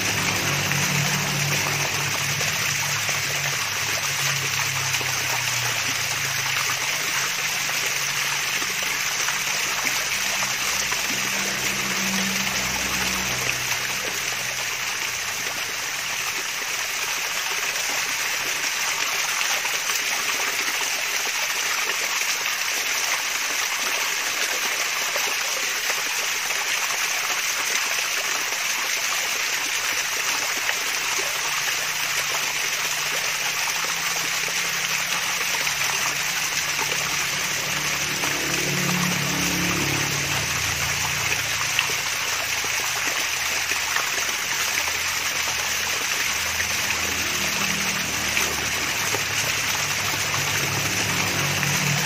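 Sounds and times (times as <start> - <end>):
water splashing down waterfall: 0.0 - 52.0.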